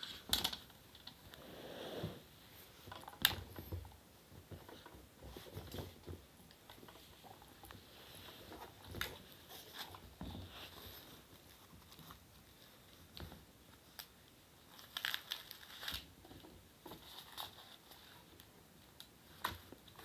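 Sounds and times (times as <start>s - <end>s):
small knocks and rustles: 2.0s - 20.0s.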